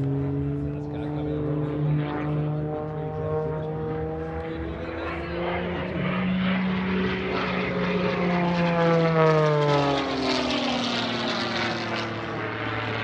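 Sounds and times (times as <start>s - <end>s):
propeller plane passing: 0.0s - 13.0s.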